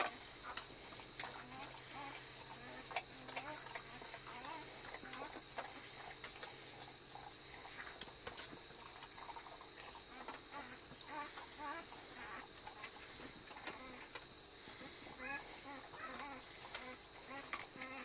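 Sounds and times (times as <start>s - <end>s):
dog licking puppy: 0.1s - 18.0s.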